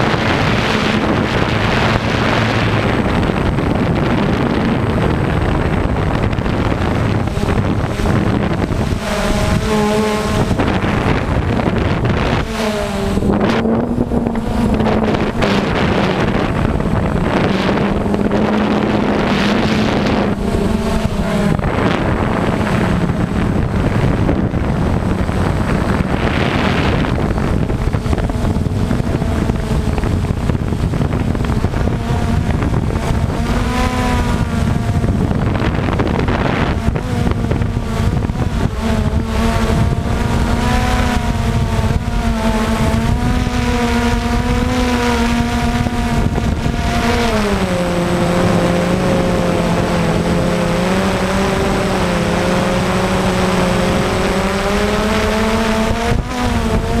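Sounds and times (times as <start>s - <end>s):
drone propellers buzzing: 0.0s - 57.0s
wind noise on microphone: 0.0s - 57.0s.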